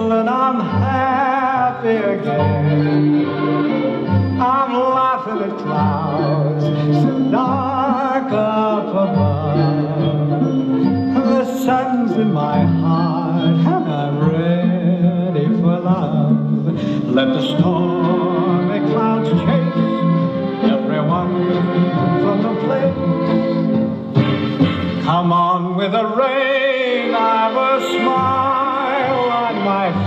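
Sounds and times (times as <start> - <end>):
song with singer and instruments: 0.0 - 30.0.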